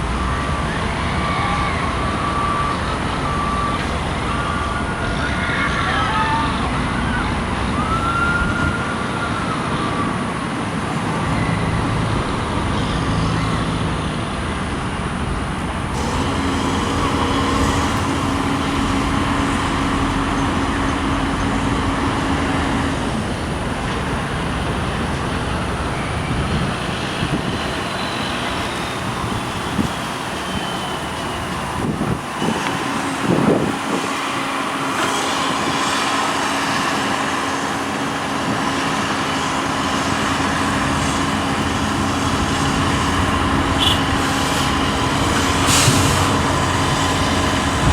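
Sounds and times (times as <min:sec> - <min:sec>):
heavy machinery engines droning: 0:00.0 - 0:47.9
low engine hum: 0:00.0 - 0:47.9
traffic noise: 0:00.0 - 0:47.9.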